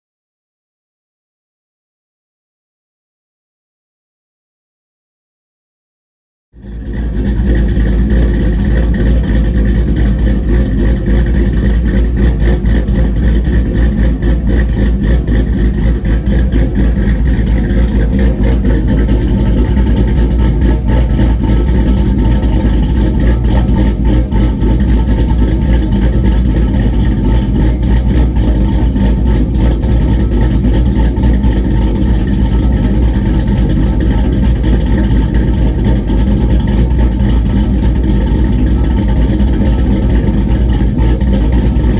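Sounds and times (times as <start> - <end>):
road noise: 6.6 - 41.9
truck engine running: 6.6 - 41.9.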